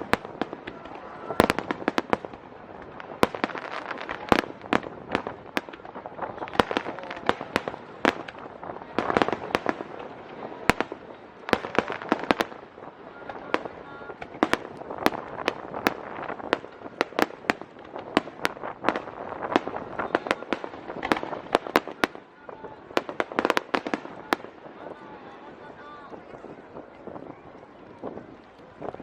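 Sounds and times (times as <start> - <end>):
fireworks bursting with sharp bangs: 0.0 - 29.0
fireworks crackling: 0.0 - 29.0.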